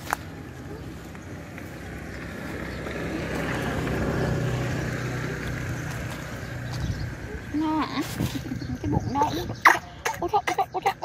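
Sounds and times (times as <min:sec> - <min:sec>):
motor engine passing: 0:00.2 - 0:09.6.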